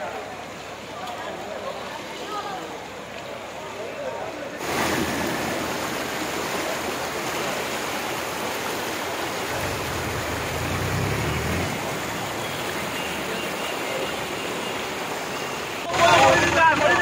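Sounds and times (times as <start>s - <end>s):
floodwater rushing over road: 0.0s - 17.0s.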